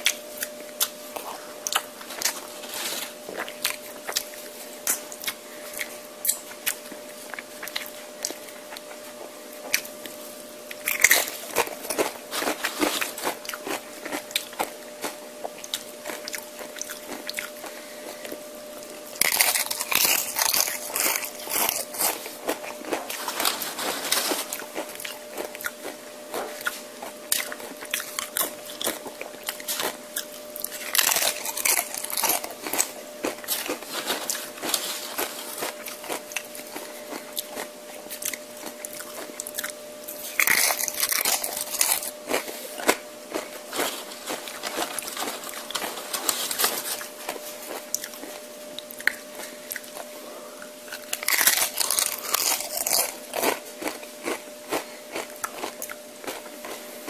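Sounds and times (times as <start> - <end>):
chewing crunchy chips: 0.0 - 57.0
steady hum: 0.0 - 57.0.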